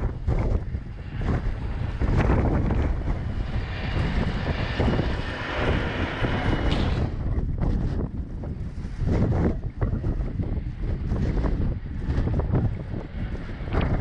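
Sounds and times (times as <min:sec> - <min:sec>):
rising whine: 0:00.0 - 0:14.0
wind noise on microphone: 0:00.0 - 0:14.0.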